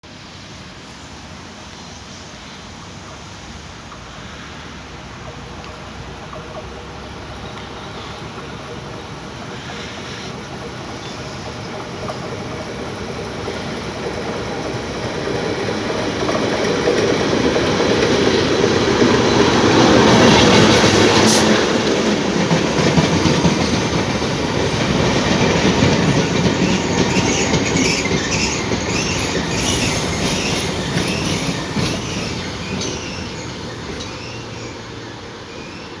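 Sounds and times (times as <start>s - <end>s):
diesel locomotive passing: 0.0s - 36.0s
wheels clattering over rail joints: 3.0s - 36.0s
wheels squealing: 4.2s - 22.2s, 22.8s - 36.0s.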